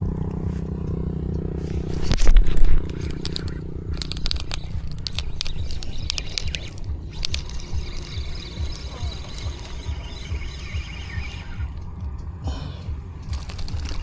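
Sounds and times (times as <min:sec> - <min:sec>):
gear clicking and scraping: 0:00.0 - 0:12.3, 0:13.2 - 0:14.0
small motor humming: 0:00.2 - 0:14.0.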